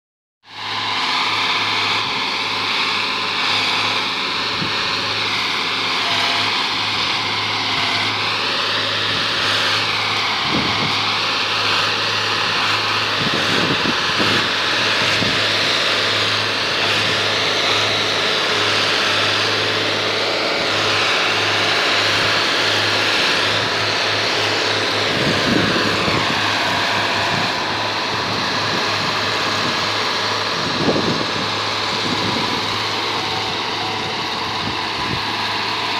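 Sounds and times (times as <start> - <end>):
machine engine humming: 0.5 - 35.9.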